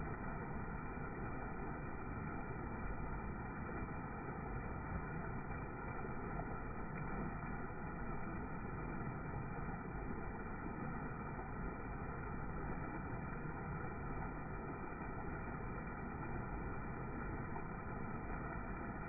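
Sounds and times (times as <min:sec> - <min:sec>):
water rushing over waterfall: 0:00.0 - 0:19.0.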